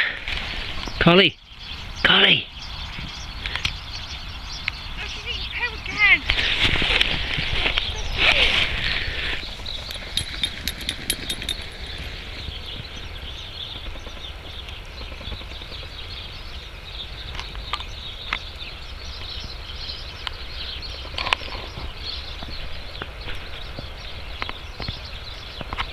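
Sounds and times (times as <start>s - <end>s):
wind rumbling on microphone: 0.0s - 25.9s.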